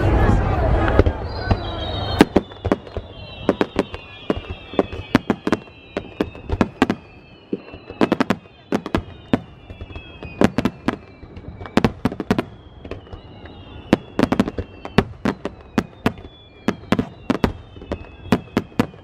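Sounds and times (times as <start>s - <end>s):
descending firework whistles: 0.0s - 19.0s
fireworks bursting with sharp bangs: 0.0s - 19.0s.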